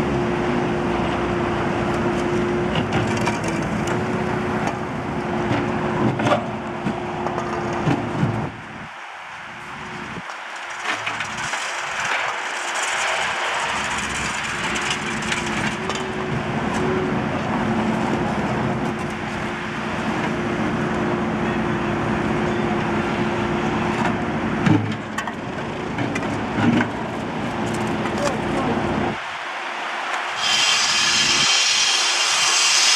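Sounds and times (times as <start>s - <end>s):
backhoe loader engine running: 0.0s - 29.4s.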